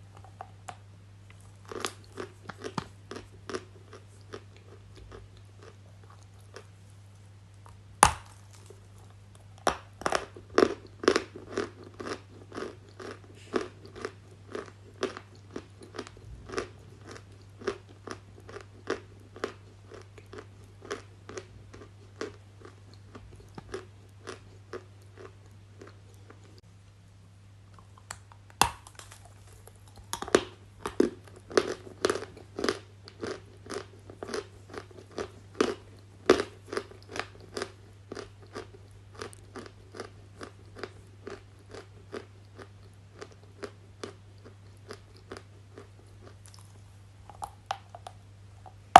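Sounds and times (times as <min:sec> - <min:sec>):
crunchy chewing: 0:00.0 - 0:06.9, 0:07.6 - 0:26.6, 0:27.7 - 0:48.8.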